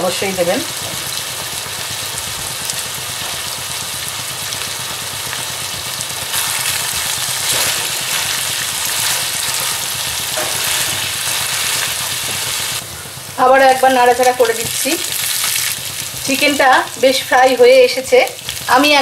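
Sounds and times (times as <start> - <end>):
chicken sizzling in frying pan: 0.0 - 19.0.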